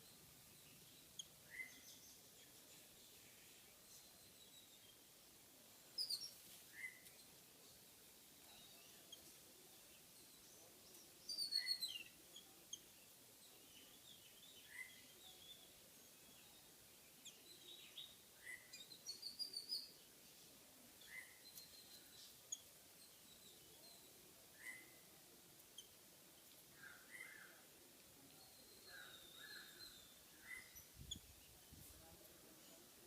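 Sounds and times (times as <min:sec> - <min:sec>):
small birds calling faintly: 0:00.0 - 0:33.0.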